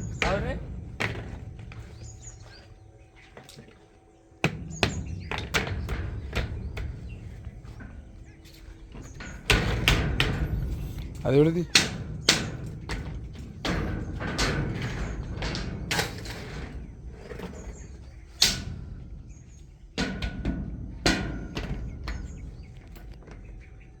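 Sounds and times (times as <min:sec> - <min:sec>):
wooden slats knocking and clattering: 0:00.0 - 0:03.8, 0:04.4 - 0:23.6.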